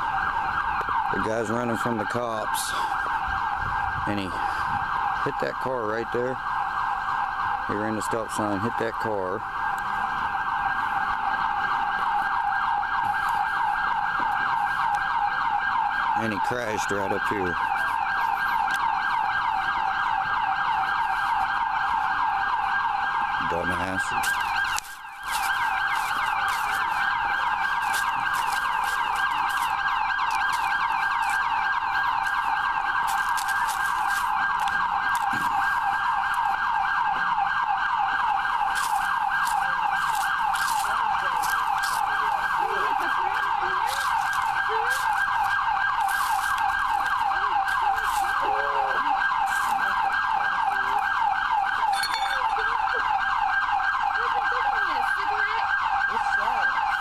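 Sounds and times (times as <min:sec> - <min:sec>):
siren warbling: 0:00.0 - 0:57.0.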